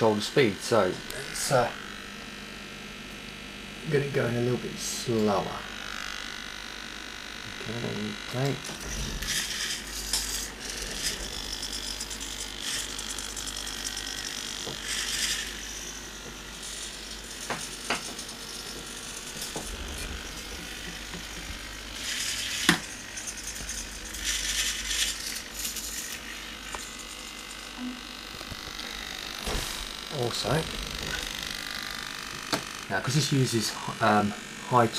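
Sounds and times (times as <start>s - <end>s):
servos whirring: 0.0s - 2.5s, 3.2s - 34.9s.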